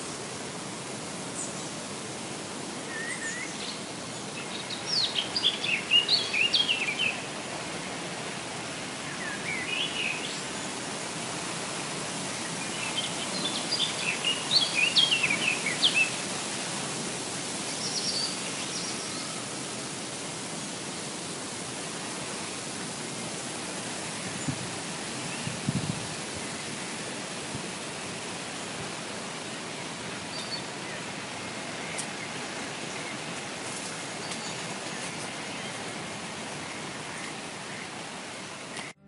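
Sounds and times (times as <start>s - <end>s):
steady background hiss: 0.0s - 39.0s
songbird singing: 2.8s - 7.7s, 8.7s - 10.9s, 11.9s - 22.8s, 23.4s - 39.0s.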